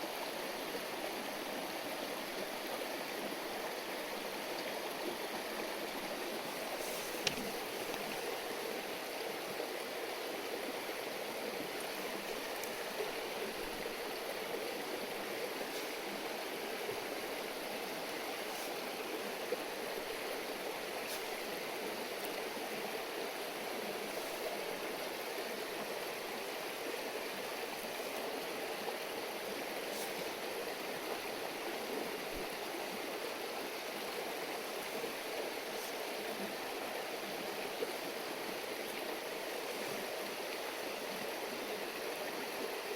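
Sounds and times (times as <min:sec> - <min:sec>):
stream babbling: 0:00.0 - 0:42.9.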